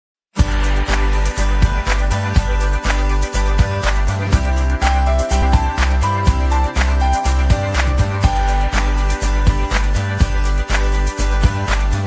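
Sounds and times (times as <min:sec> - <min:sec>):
music with heavy bass and beat: 0:00.4 - 0:12.0.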